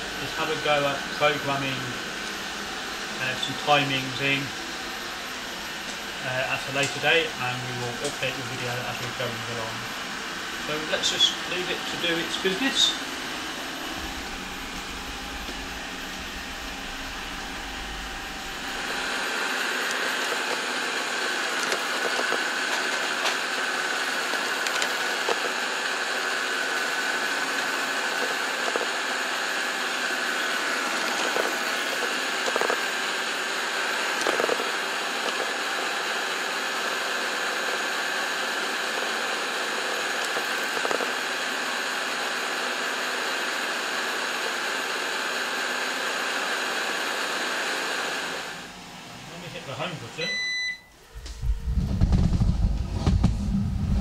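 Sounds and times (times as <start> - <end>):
robot vacuum whirring: 0.0 - 54.0.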